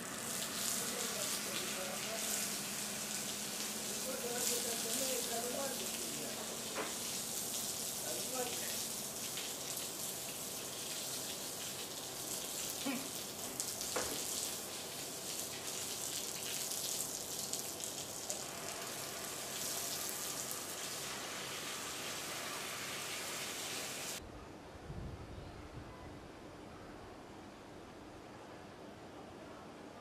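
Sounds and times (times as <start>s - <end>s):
high hiss with fine crackle: 0.0s - 24.2s.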